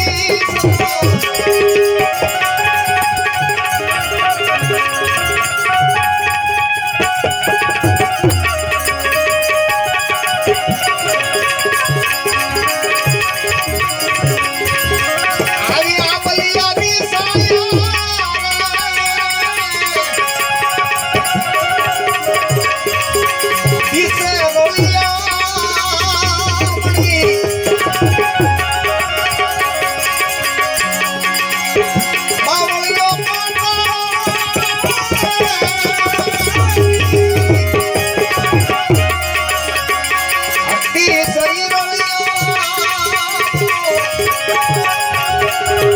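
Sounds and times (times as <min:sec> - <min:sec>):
high wavering melody: 0:00.0 - 0:45.9
sustained melodic accompaniment: 0:00.0 - 0:45.9
tabla drumming: 0:00.0 - 0:45.9.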